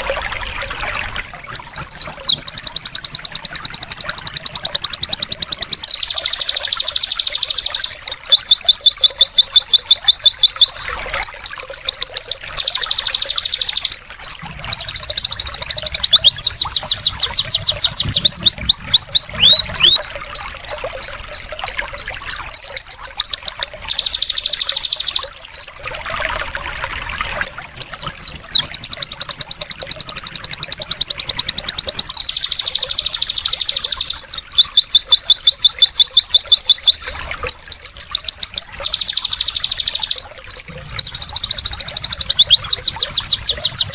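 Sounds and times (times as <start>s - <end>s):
bird singing rapid trills: 0.0s - 43.9s
water trickling: 0.0s - 43.9s.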